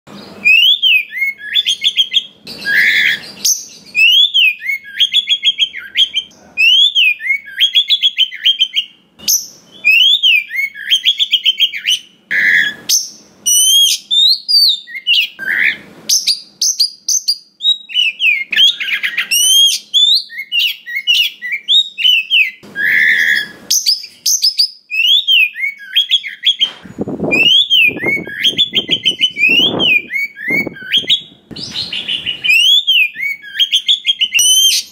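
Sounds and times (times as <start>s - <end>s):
bird singing whistled song: 0.1s - 34.9s
harsh bird calls: 0.1s - 34.9s.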